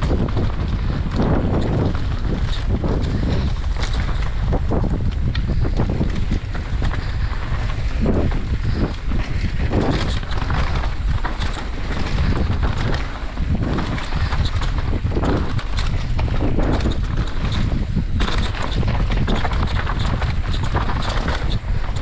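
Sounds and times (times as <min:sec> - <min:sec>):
bike clicks and knocks: 0:00.0 - 0:22.0
wind buffeting microphone: 0:00.0 - 0:22.0.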